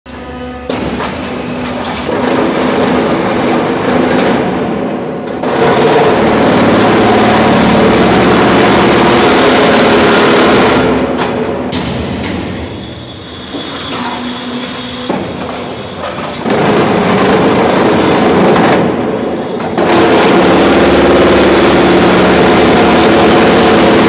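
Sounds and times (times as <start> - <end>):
block machine rattling and vibrating: 0.7 - 13.0, 13.6 - 24.0.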